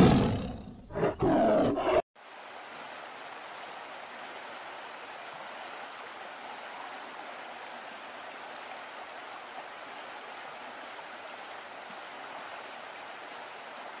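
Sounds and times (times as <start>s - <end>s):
stream flowing over rocks: 2.2s - 14.0s.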